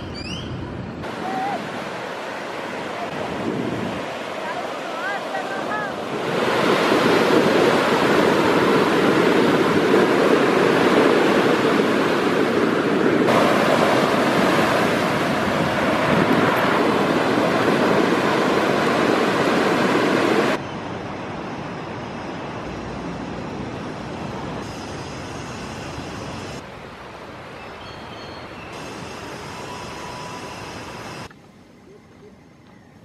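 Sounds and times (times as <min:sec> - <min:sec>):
ocean waves breaking on sand: 0:01.0 - 0:27.6.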